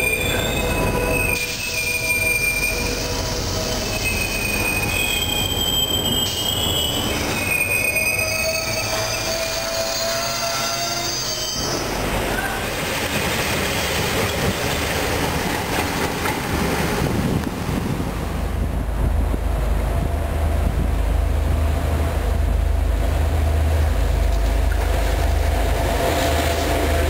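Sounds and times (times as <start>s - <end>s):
diesel locomotive engine drone: 0.0s - 27.0s
rail rumble and clatter: 0.0s - 27.0s.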